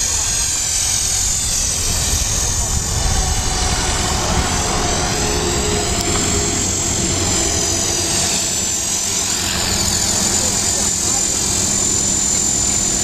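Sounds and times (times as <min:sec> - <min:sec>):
rc helicopter whine: 0:00.0 - 0:13.0
low rumble: 0:01.2 - 0:13.0.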